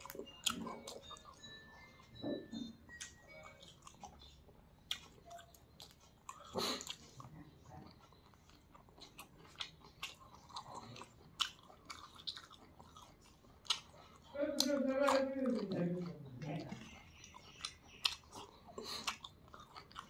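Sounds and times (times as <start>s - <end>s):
person chewing and biting: 0.0s - 15.7s, 16.8s - 20.0s.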